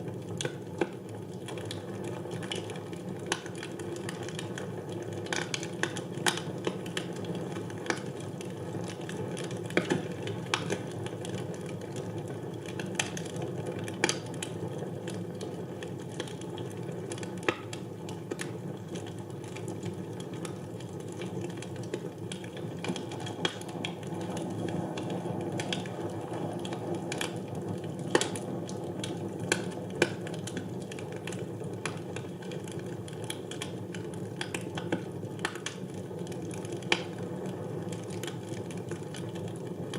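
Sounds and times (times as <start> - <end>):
low rustle of flames: 0.0 - 39.9
wood fire crackling and popping: 0.0 - 39.9.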